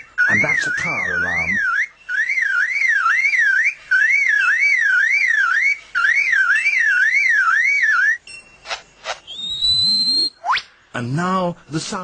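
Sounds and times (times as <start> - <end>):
lyrebird whistled warble: 0.0 - 10.7.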